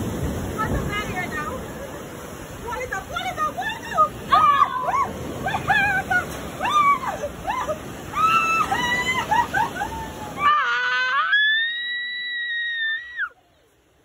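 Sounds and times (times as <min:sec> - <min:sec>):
surf breaking: 0:00.0 - 0:13.3.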